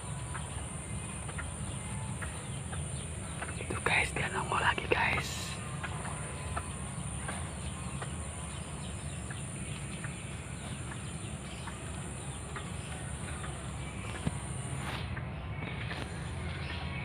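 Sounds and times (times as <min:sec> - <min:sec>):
bird clucks and ticks: 0:00.1 - 0:16.8.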